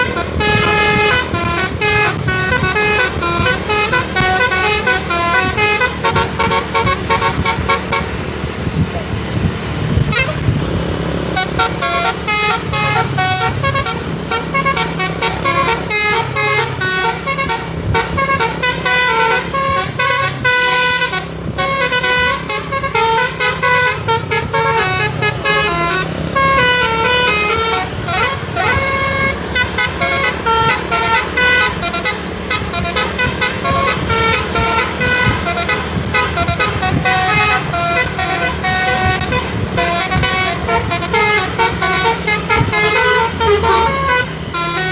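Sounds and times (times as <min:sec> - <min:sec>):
bus engine running low: 0:00.0 - 0:44.9
musical air horn melodies: 0:00.0 - 0:44.9.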